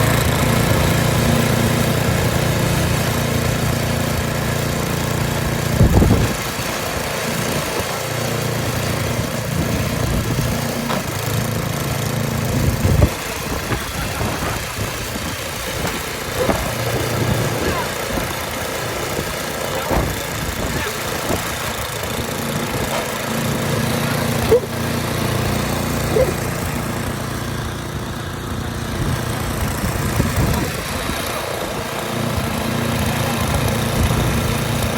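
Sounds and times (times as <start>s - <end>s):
engine humming: 0.0s - 34.9s.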